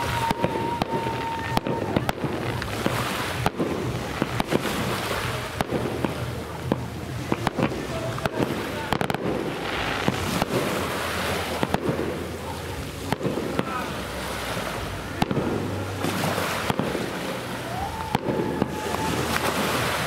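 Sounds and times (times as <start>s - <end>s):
fireworks bursting with sharp bangs: 0.0s - 20.0s
steady rushing background noise: 0.0s - 20.0s.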